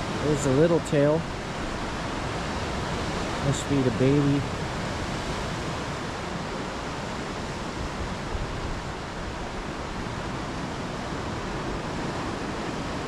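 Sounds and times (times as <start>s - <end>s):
ocean surf on rocks: 0.0s - 13.0s
wind buffeting microphone: 0.0s - 13.0s.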